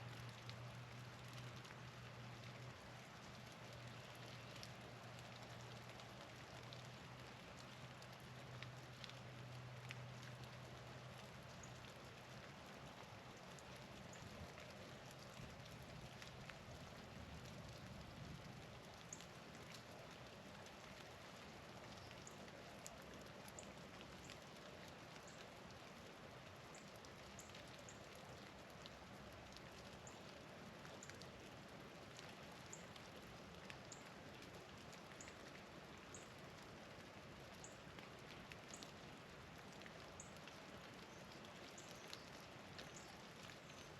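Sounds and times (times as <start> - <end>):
wet snow or drips pattering: 0.0 - 43.9.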